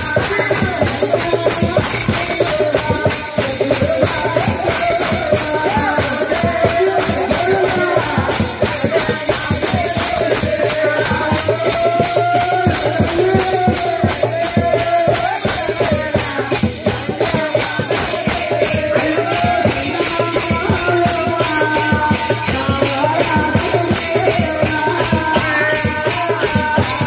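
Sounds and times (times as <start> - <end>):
fast dense percussion: 0.0 - 27.0
hand cymbals jingling: 0.0 - 27.0
man singing: 0.0 - 27.0.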